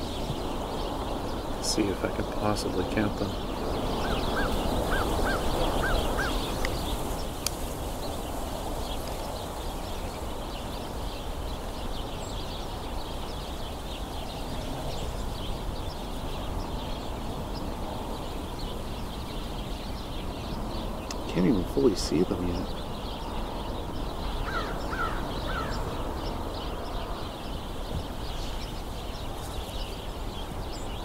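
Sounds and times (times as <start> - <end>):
sparrows chirping and squabbling: 0.0 - 31.0.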